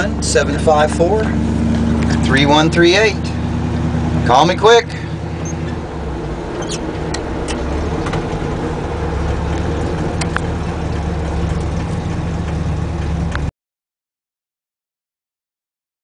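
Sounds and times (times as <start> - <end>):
car engine running: 0.0 - 13.5.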